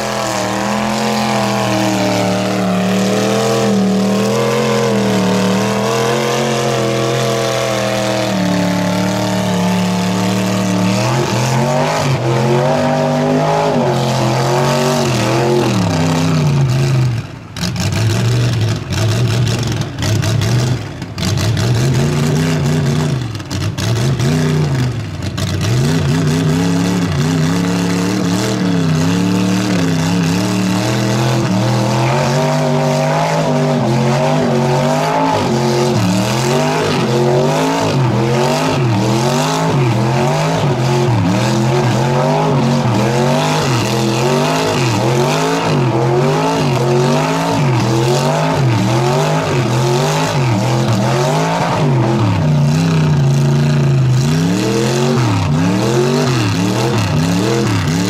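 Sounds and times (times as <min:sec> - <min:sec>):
truck engine revving in mud: 0:00.0 - 0:58.0.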